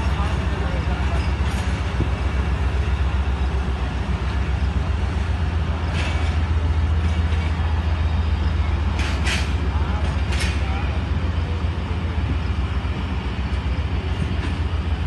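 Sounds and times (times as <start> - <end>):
train coaches rumbling past: 0.0 - 15.0.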